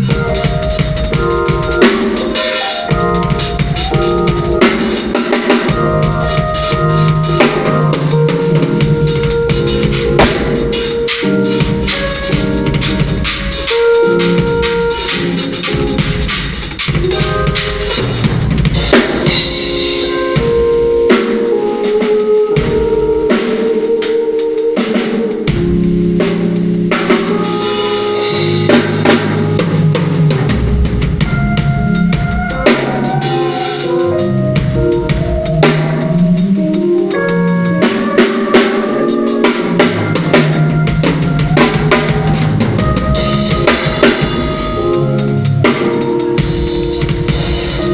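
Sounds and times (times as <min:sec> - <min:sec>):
bass line: 0:00.0 - 0:24.0, 0:24.7 - 0:47.9
sustained pitched instrument notes: 0:00.0 - 0:25.8, 0:26.9 - 0:47.9
drum kit playing: 0:00.0 - 0:47.9.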